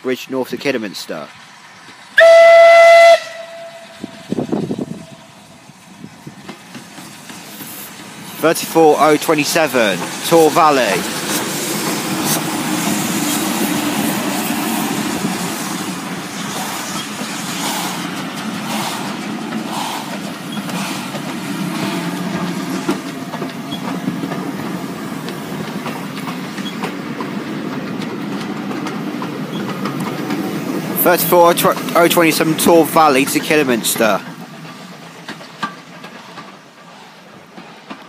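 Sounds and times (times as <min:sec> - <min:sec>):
steam locomotive passing: 0:00.0 - 0:38.0
train wheels clattering over rail joints: 0:03.3 - 0:38.0.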